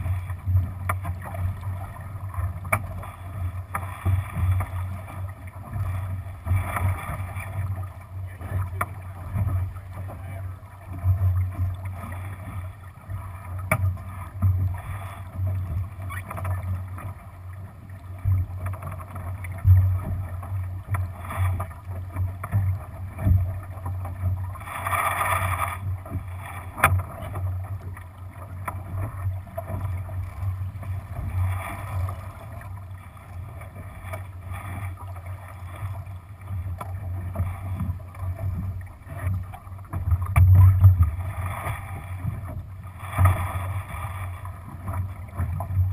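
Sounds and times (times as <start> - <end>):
water rushing along boat hull: 0.0 - 45.9
wind rumble on microphone: 0.0 - 45.9.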